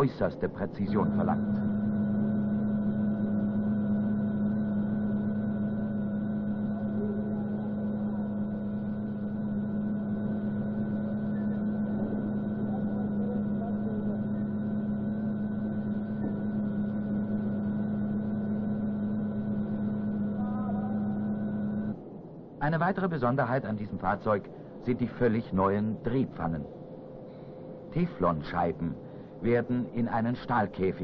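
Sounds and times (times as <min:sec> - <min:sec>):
constant tones: 0:00.0 - 0:31.0
low mechanical hum: 0:00.0 - 0:31.0.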